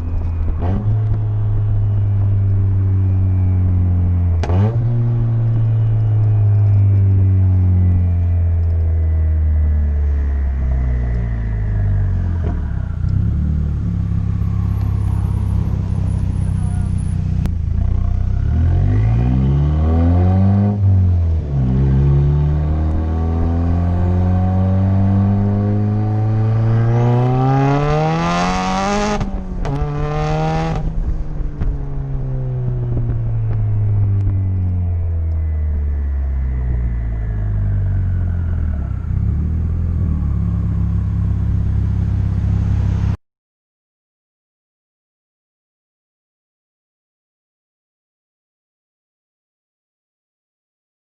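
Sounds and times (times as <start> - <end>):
car engine accelerating hard: 0.0 - 43.2.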